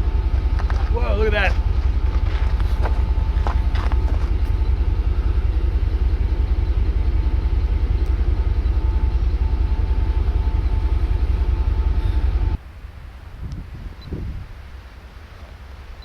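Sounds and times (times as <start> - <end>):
low rumble: 0.0 - 15.8
faint steady hum: 0.0 - 16.0.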